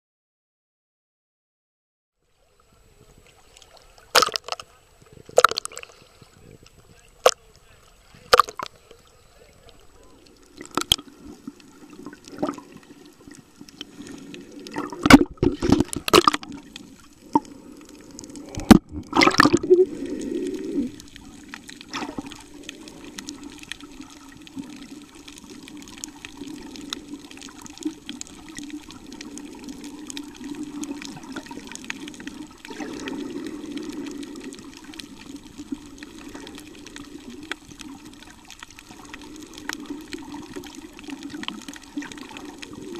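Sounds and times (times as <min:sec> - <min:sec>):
muffled underwater wash: 0:02.2 - 0:42.9
water splashing against camera: 0:02.7 - 0:42.9.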